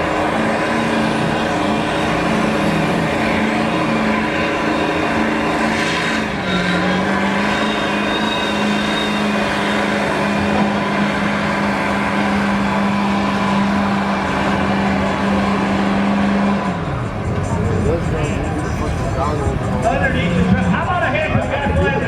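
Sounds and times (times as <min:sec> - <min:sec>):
truck engine at high revs: 0:00.0 - 0:22.0.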